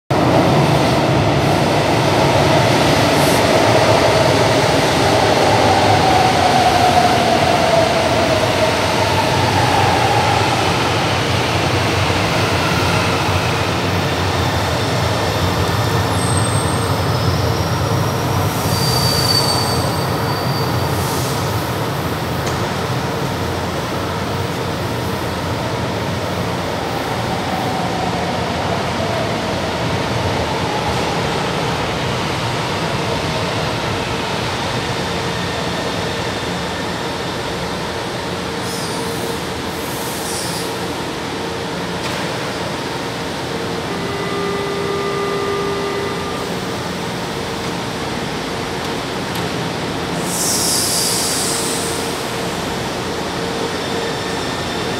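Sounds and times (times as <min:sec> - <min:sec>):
train wheels rumbling on rail: 0:00.1 - 0:54.9.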